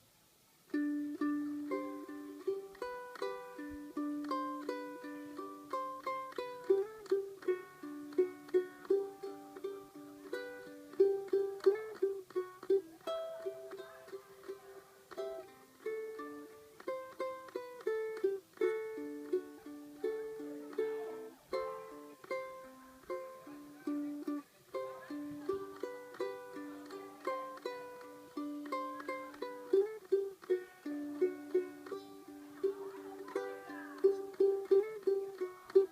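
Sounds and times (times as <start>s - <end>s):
ukulele plucked melody: 0.6s - 35.9s.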